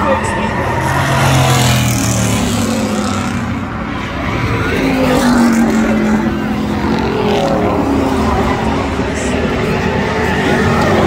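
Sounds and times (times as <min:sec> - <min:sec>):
race truck engines roaring: 0:00.0 - 0:11.0.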